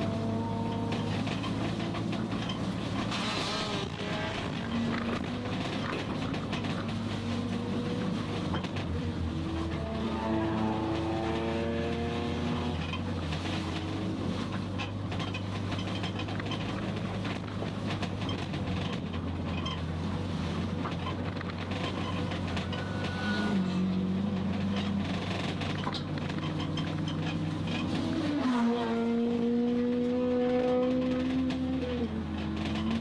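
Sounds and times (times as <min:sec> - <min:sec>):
car engine from inside cabin: 0:00.0 - 0:18.1, 0:18.9 - 0:33.0
road noise: 0:00.0 - 0:33.0.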